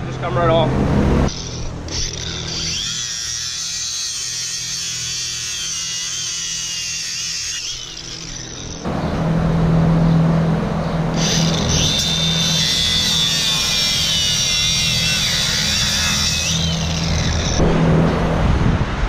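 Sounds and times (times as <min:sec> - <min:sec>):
grinder whining: 0:01.0 - 0:17.7.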